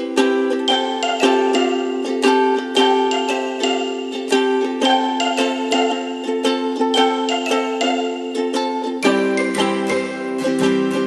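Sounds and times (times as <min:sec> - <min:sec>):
light instrumental music: 0:00.0 - 0:11.0.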